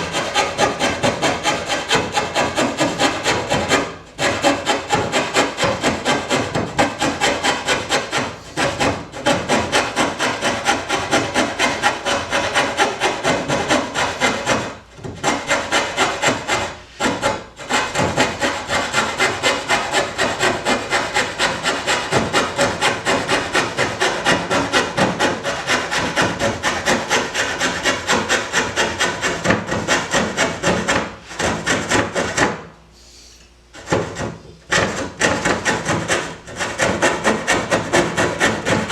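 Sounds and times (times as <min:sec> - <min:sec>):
hand saw cutting wood: 0:00.0 - 0:32.6, 0:33.8 - 0:38.9.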